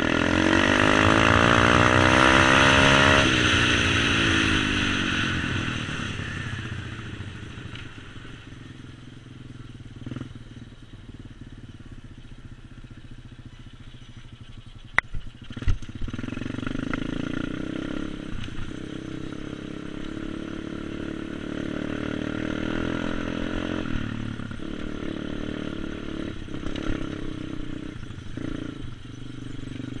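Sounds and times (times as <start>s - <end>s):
small motorcycle engine running: 0.0s - 30.0s.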